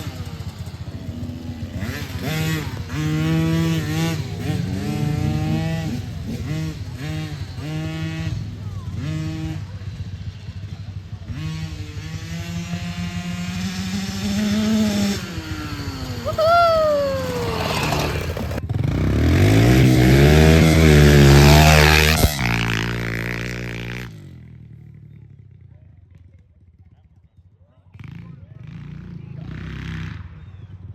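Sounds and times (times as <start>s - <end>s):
dirt bike engine revving: 0.0s - 24.8s.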